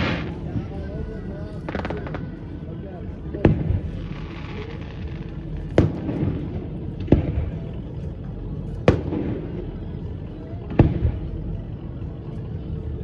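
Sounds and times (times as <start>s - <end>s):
distant fireworks bursting: 0.0s - 2.6s, 3.3s - 11.6s.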